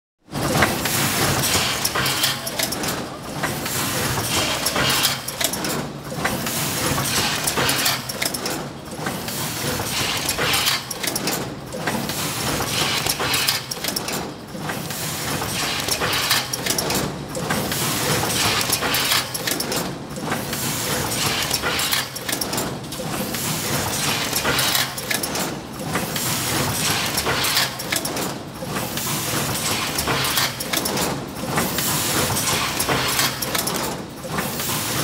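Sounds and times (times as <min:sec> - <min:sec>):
packing machine clatter and hiss: 0:00.3 - 0:35.0.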